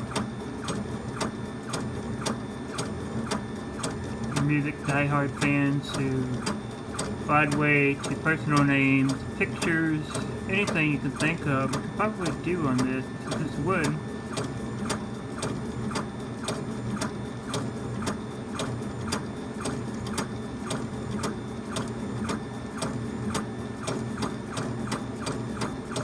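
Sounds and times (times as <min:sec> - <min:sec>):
stepper motors whirring and clicking: 0:00.0 - 0:26.0.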